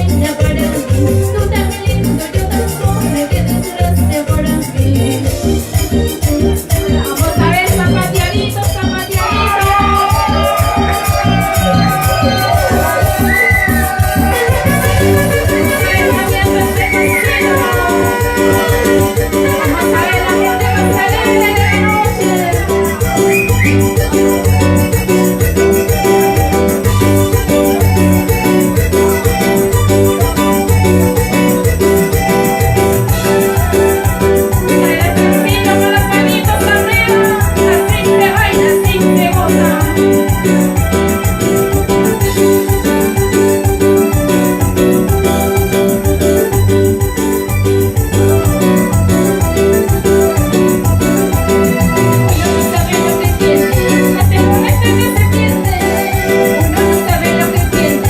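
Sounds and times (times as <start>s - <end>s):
bass and drum beat: 0.0s - 58.0s
organ-like keyboard: 0.0s - 58.0s.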